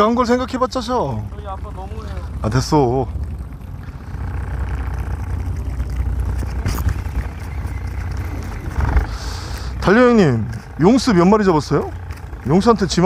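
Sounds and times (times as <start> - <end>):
boat engine droning: 0.0 - 13.0
wind and water: 0.0 - 13.0.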